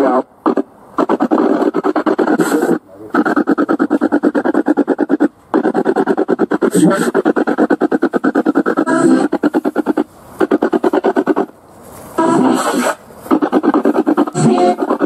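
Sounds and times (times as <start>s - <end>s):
radio static sweeping stations: 0.0s - 15.0s.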